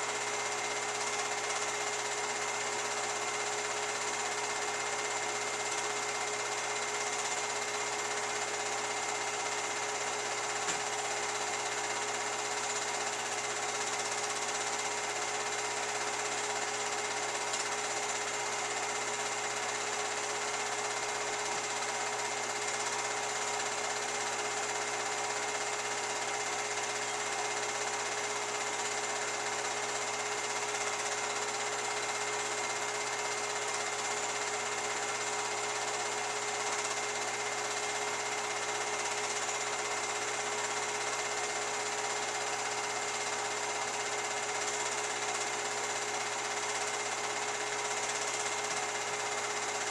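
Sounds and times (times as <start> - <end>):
film projector whirring: 0.0 - 49.9.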